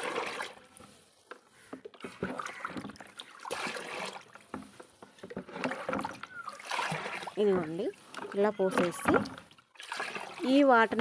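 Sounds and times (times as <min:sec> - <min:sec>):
water pouring into bucket: 0:00.0 - 0:00.7, 0:01.9 - 0:04.6, 0:05.3 - 0:11.0.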